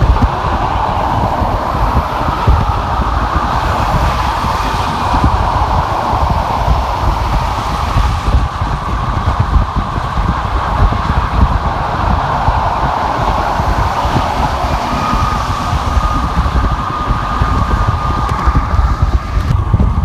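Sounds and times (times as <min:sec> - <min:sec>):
low rumble: 0:00.0 - 0:20.0
tyre and wind noise: 0:00.0 - 0:20.0.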